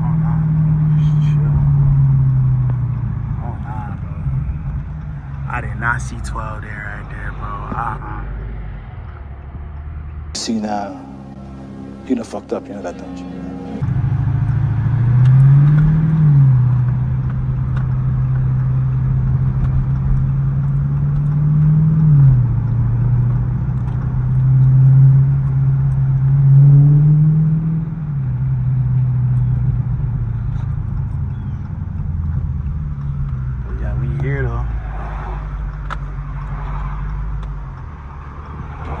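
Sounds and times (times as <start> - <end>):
car engine droning from inside: 0.0 - 39.0.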